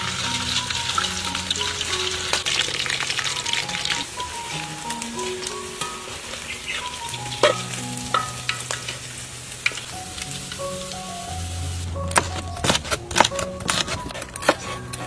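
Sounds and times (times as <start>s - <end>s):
meat sizzling in hot oil: 0.0s - 12.1s
background music: 0.0s - 15.0s
skimmer stirring in oil: 0.0s - 15.0s.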